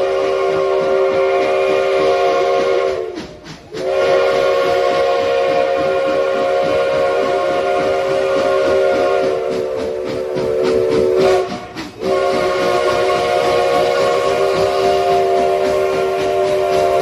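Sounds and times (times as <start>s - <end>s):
hiss of steam: 0.0s - 17.0s
steam locomotive whistle: 0.0s - 17.0s.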